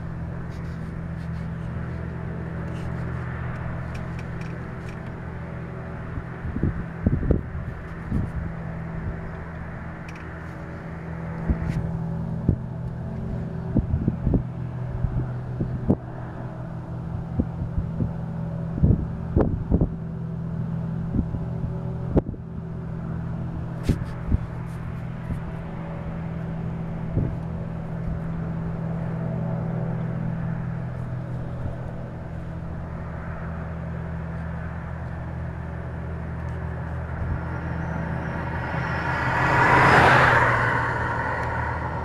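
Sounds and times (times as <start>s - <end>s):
low industrial hum: 0.0s - 42.0s.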